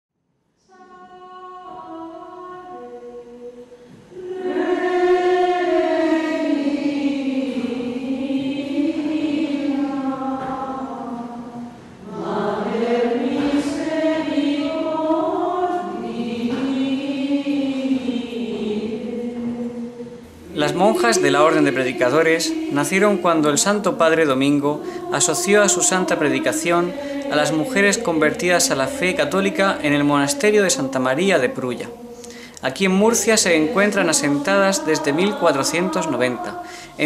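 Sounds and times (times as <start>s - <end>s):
choir chanting: 0.6s - 37.0s.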